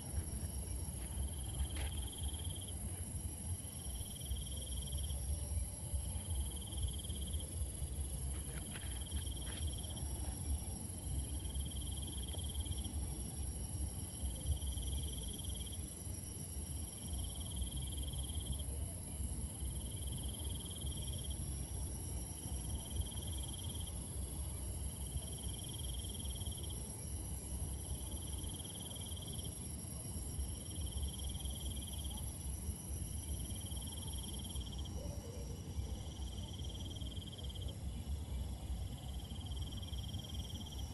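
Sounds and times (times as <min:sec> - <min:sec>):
pulsing insect call: 0:00.0 - 0:40.9.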